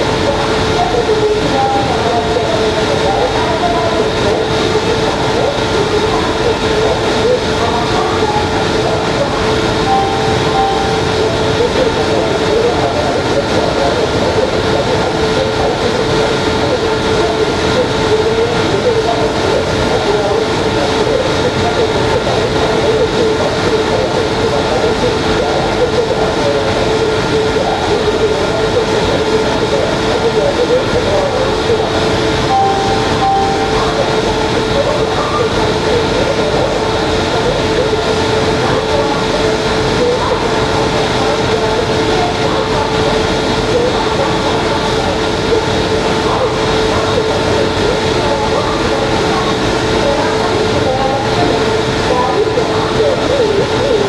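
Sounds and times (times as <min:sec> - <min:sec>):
electric locomotive humming: 0:00.0 - 0:54.0.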